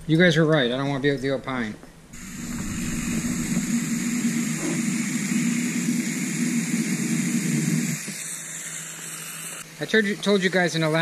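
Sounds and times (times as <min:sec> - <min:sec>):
hose water spraying on grass: 0:02.2 - 0:11.0.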